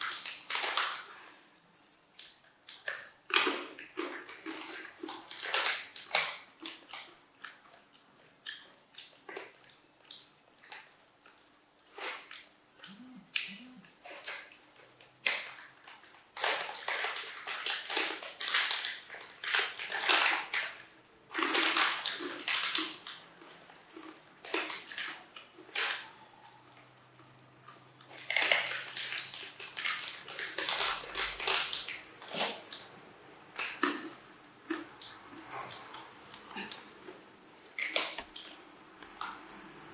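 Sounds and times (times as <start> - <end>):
monkey crunching peanuts: 2.4 - 26.3, 27.2 - 32.9, 33.5 - 39.4.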